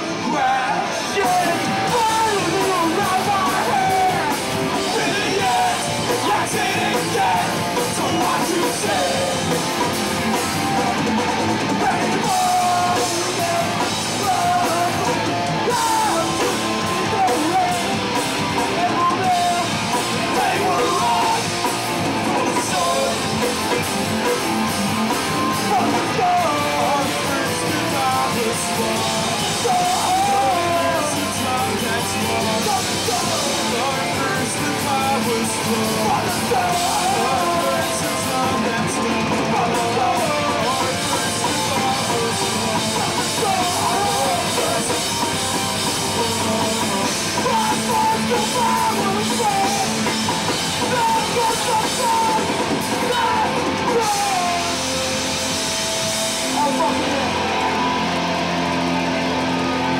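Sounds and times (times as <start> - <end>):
bass guitar: 0.0 - 59.9
distorted electric guitars: 0.0 - 59.9
drum kit pounding: 0.0 - 59.9.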